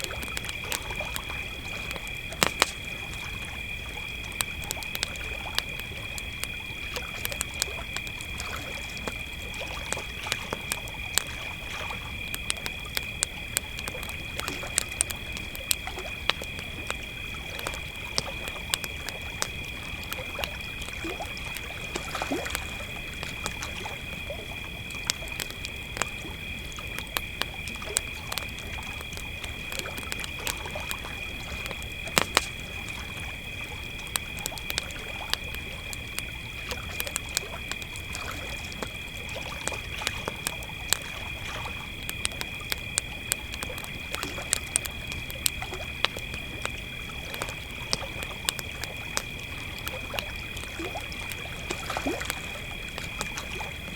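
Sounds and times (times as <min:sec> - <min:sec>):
campfire crackling: 0:00.0 - 0:53.9
crickets trilling: 0:00.0 - 0:53.9.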